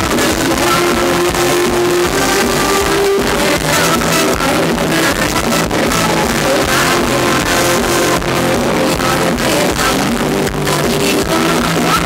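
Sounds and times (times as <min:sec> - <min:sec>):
live band playing dance music: 0:00.0 - 0:12.0.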